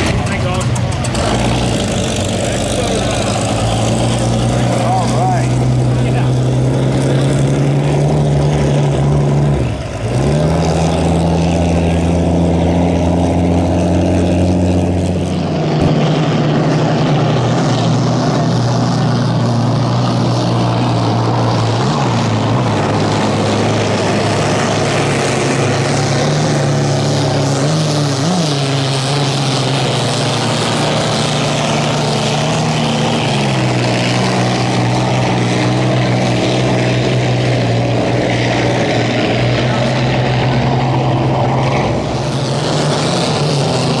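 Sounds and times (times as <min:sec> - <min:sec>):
deep engine drone: 0:00.0 - 0:44.0.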